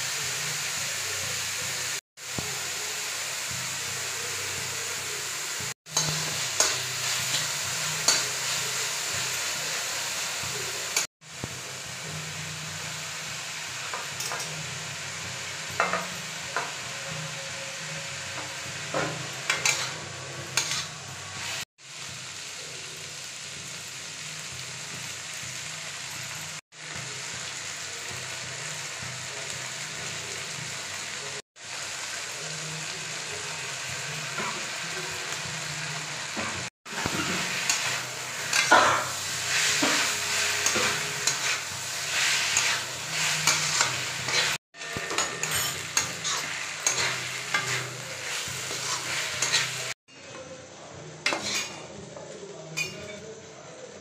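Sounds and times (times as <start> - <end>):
vegetables sizzling in stir-fry: 0.0 - 54.0.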